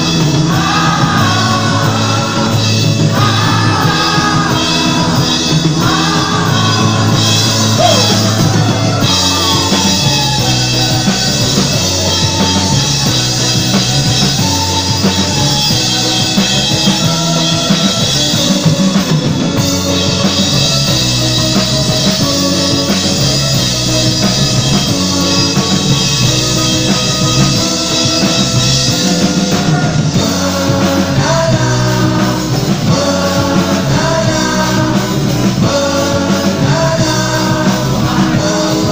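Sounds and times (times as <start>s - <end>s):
person singing: 0.0s - 20.4s, 24.7s - 38.9s
drum kit: 0.0s - 38.9s
guitars: 0.0s - 38.9s
rock band playing live: 0.0s - 38.9s.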